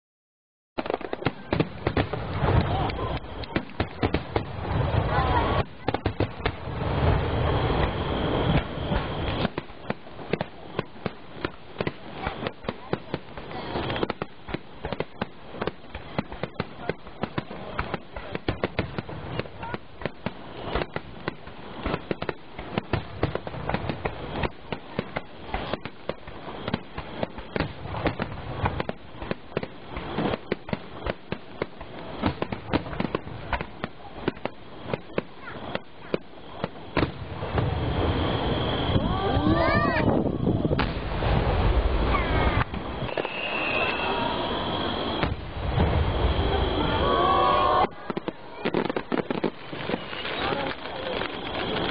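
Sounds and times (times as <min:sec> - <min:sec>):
fireworks bangs and crackles: 0:00.8 - 0:51.9.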